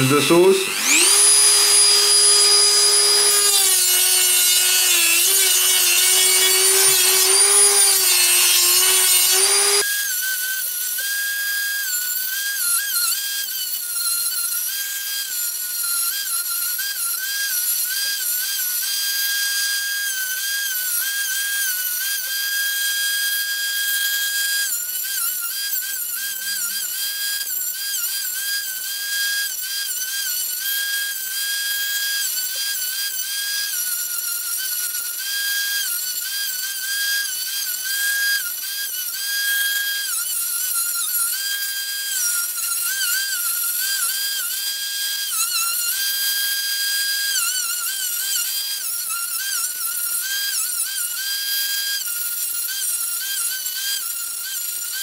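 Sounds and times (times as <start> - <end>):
rotary tool grinding: 0.0 - 55.0.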